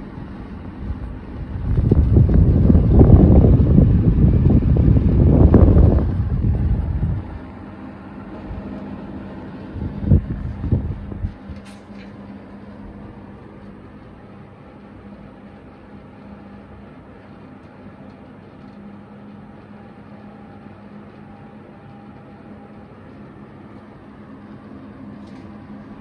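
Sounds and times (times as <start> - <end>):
air conditioner fan rushing: 0.0 - 26.0.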